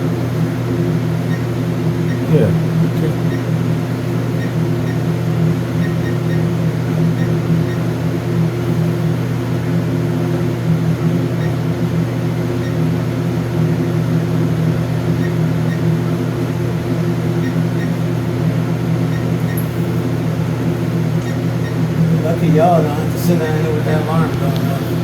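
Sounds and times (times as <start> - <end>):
low hum of running machinery: 0.0 - 25.0.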